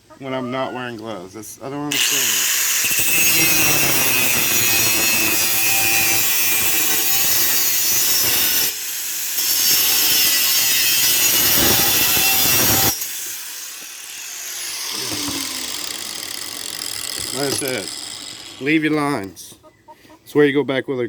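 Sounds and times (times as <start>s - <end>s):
cut-off wheel grinding steel: 1.9s - 19.3s.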